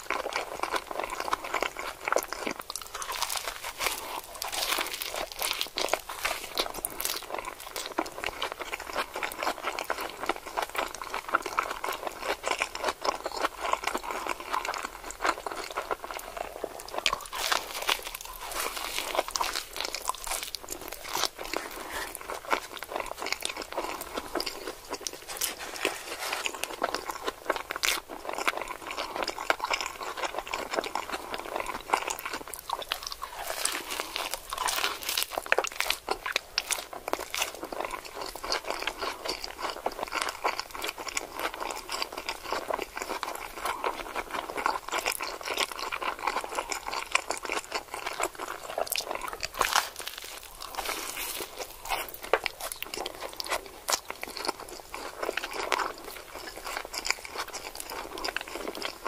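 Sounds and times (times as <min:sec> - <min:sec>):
crunchy taco being chewed: 0:00.0 - 0:59.0.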